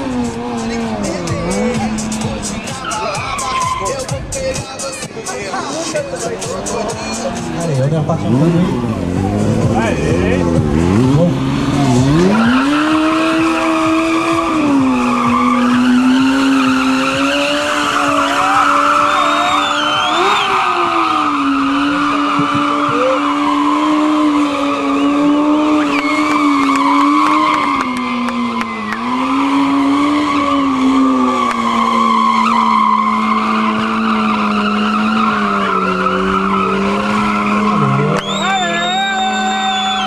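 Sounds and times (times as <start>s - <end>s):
motorcycle engine revving high: 0.0s - 3.6s, 6.5s - 40.0s.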